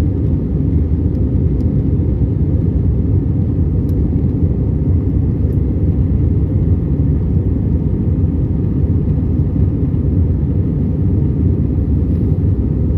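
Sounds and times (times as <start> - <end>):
jet engine rumble in cabin: 0.0 - 12.9.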